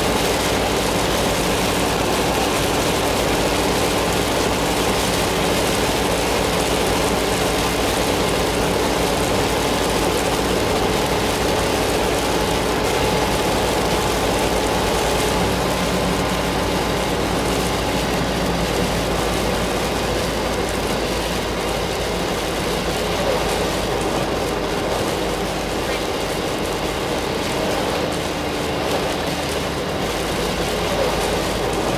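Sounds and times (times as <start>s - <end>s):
engine and road drone: 0.0s - 31.9s
rain on car: 0.0s - 31.9s
tyres hissing on wet road: 0.0s - 31.9s.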